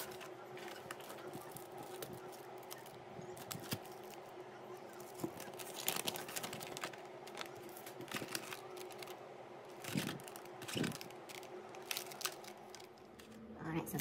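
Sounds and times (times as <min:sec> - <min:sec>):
plastic clicks and crinkles: 0:00.0 - 0:04.3, 0:04.9 - 0:13.4
faint steady hum: 0:00.0 - 0:14.0.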